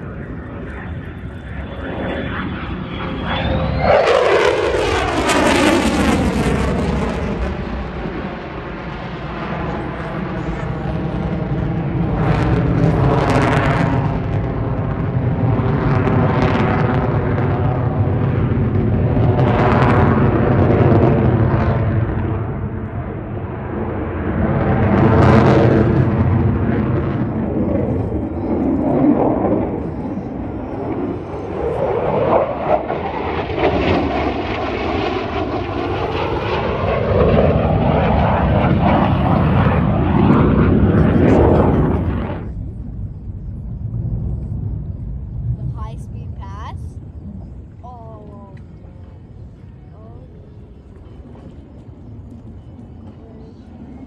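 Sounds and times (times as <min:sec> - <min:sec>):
jet flying past overhead: 0:00.0 - 0:54.0.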